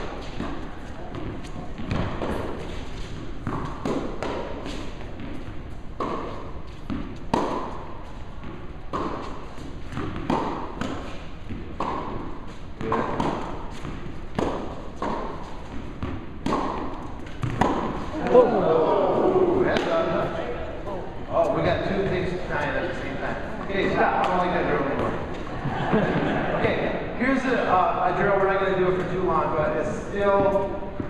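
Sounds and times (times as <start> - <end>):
tennis balls bouncing on court: 0.0 - 20.6, 21.4 - 31.0
tennis balls struck by rackets: 0.0 - 20.6, 21.3 - 27.6, 28.2 - 31.0.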